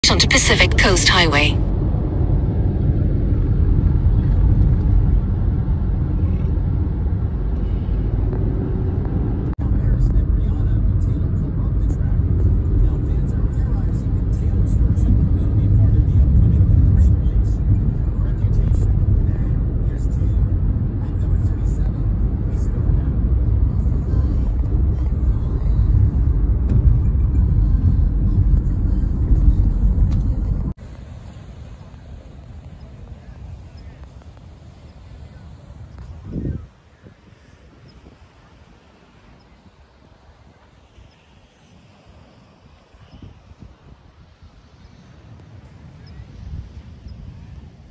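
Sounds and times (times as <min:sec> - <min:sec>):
car driving on road: 0:01.6 - 0:47.8.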